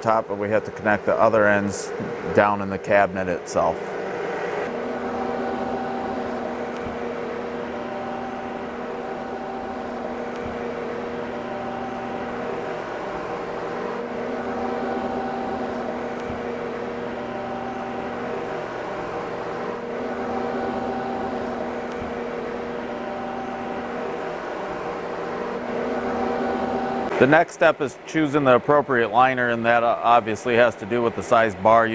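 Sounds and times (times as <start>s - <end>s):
machinery humming: 0.0s - 31.9s.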